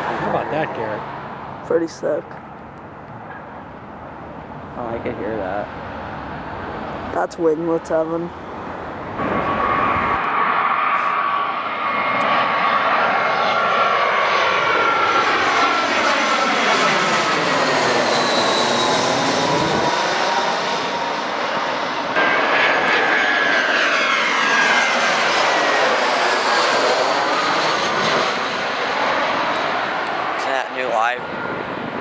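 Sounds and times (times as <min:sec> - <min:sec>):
jet airliner passing overhead: 0:00.0 - 0:32.0.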